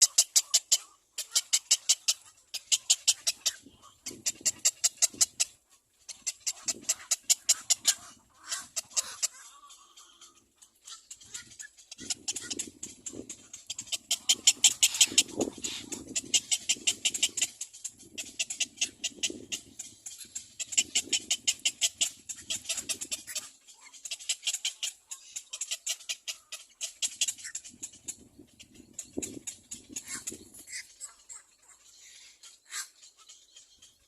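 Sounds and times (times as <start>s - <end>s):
cormorant chick calling: 0.0s - 34.0s.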